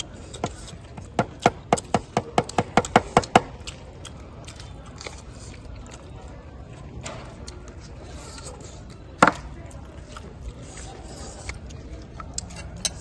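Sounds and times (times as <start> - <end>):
crisp food being chewed: 0.0 - 13.0.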